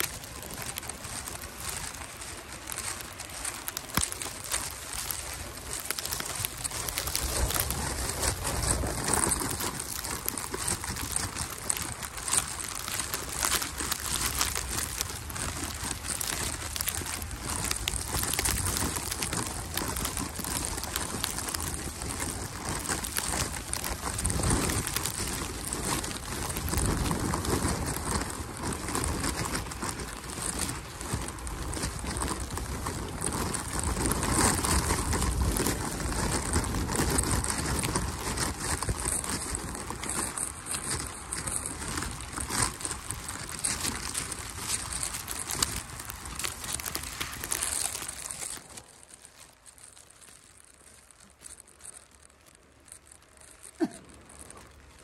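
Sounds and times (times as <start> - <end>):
wind rumble on microphone: 0.0 - 49.5
footsteps crunching through snow: 0.0 - 55.0.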